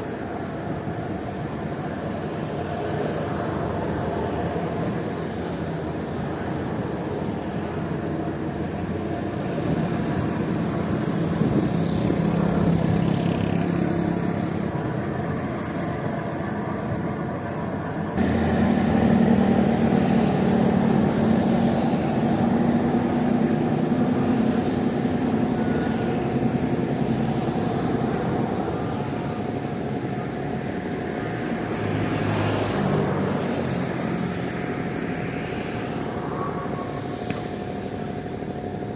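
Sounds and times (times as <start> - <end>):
ferry engines droning: 0.0 - 38.9.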